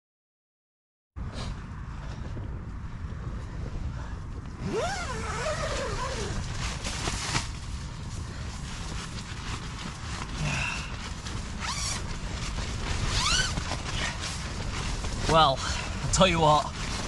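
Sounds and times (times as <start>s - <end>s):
wind buffeting microphone: 1.2s - 17.0s.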